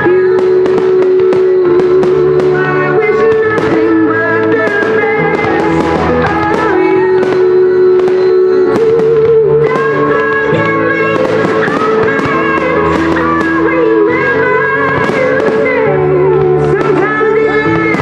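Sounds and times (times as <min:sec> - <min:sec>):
fireworks bursting: 0:00.0 - 0:18.0
music with guitar: 0:00.0 - 0:18.0.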